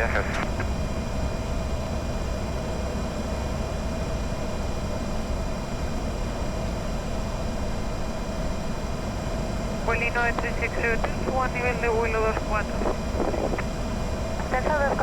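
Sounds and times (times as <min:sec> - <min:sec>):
jet cockpit airflow and engine rumble: 0:00.0 - 0:15.0
steady mid-pitched hum: 0:00.0 - 0:15.0.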